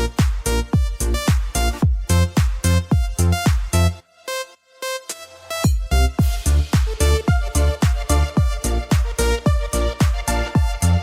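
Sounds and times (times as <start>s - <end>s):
synth chords: 0.0s - 11.0s
kick-drum beat: 0.2s - 3.8s, 5.7s - 11.0s.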